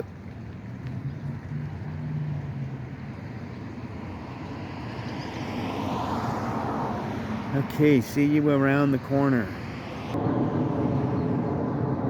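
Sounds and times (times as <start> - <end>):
vehicle passing: 0.7 - 12.0.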